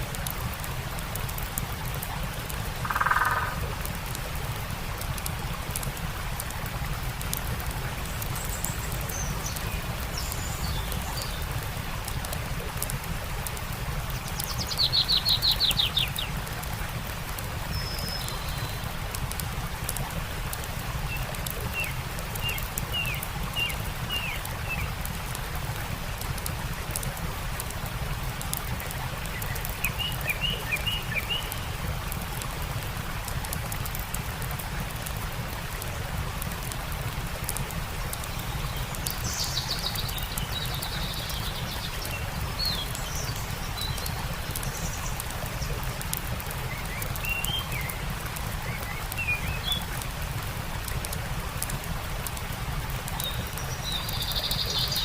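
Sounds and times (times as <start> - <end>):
campfire crackling: 0.0 - 55.0
stream rushing: 0.0 - 55.0.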